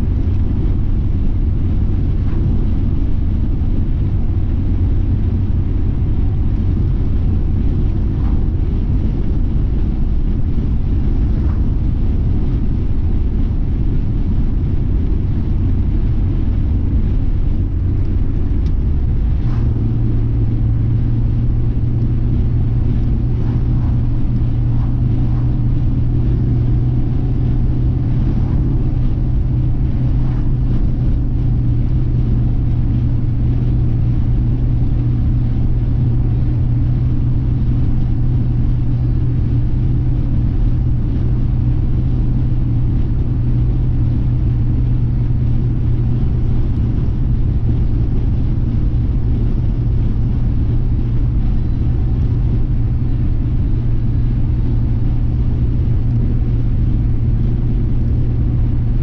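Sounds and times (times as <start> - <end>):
car cabin road hum: 0.0 - 59.0.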